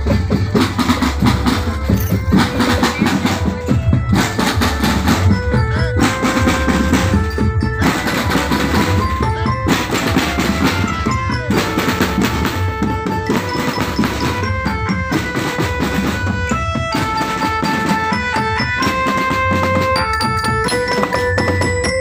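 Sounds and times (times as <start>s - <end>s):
drum rolls: 0.0s - 22.0s
melody of held notes: 0.0s - 22.0s
snare and bass drums beating: 0.0s - 22.0s.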